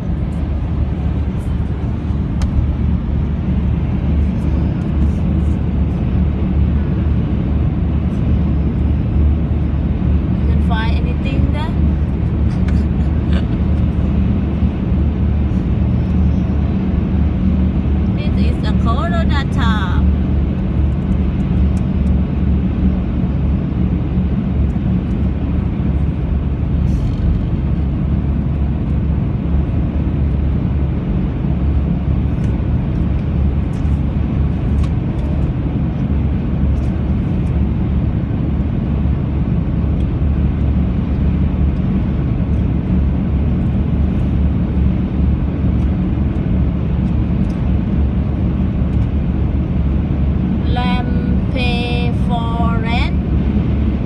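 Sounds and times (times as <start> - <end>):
road and tyre noise in car: 0.0 - 54.0.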